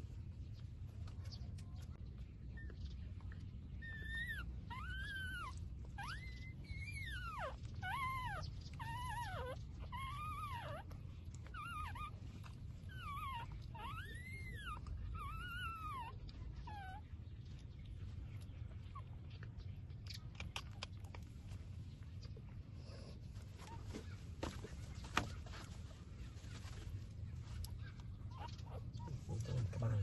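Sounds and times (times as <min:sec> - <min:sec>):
puppies whining: 0:02.5 - 0:21.3, 0:22.5 - 0:25.8, 0:26.6 - 0:30.0.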